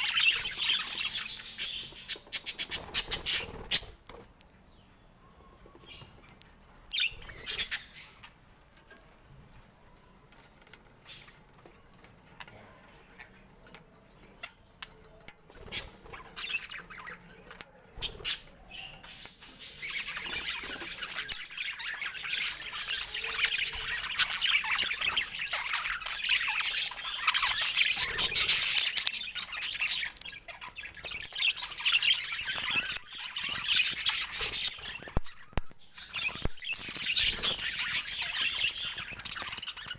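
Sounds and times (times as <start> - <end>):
budgerigars chirping and chattering: 0.0 - 9.2, 10.0 - 39.9.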